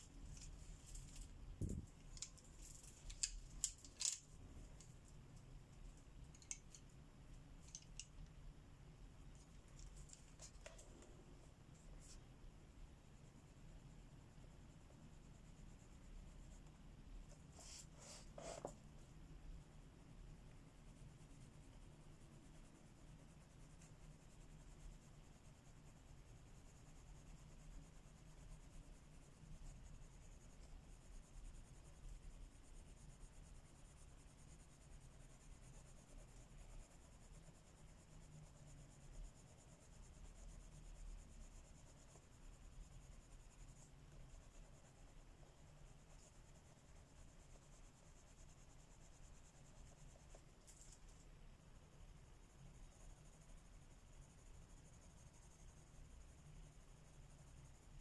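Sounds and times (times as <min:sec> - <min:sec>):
coloring strokes scratching on paper: 0:00.0 - 0:08.2, 0:09.2 - 0:58.0.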